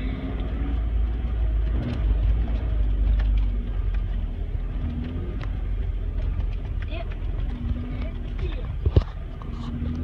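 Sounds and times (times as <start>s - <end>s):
truck engine rumble: 0.0s - 10.0s
tyres on a dirt track: 0.0s - 10.0s
knocks and rattles from bumps: 1.0s - 10.0s.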